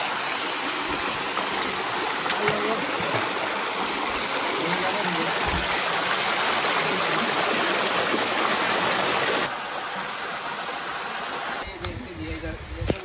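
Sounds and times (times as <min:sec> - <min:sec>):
stream rushing over rocks: 0:00.0 - 0:11.8.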